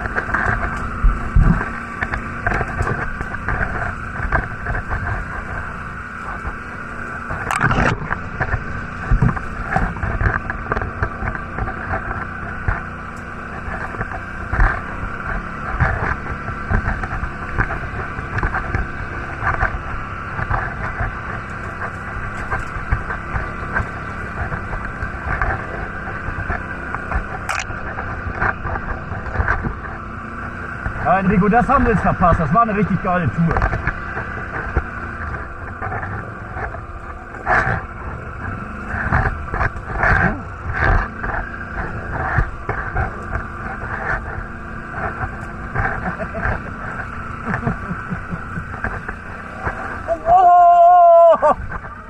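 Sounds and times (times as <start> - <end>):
quad engine running: 0.0 - 52.0.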